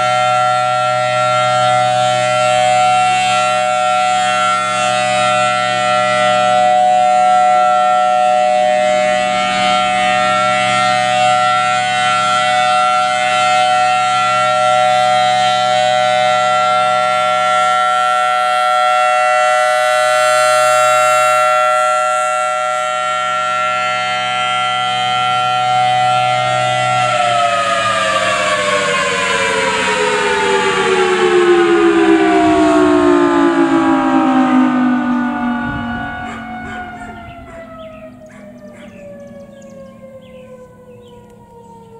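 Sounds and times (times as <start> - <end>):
warning siren steady tone: 0.0 - 41.9.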